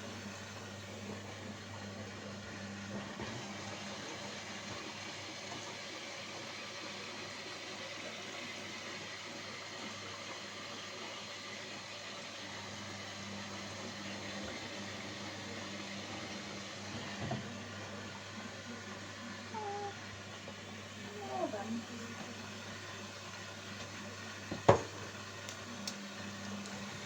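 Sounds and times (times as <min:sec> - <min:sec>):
washing machine running: 0:00.0 - 0:27.0.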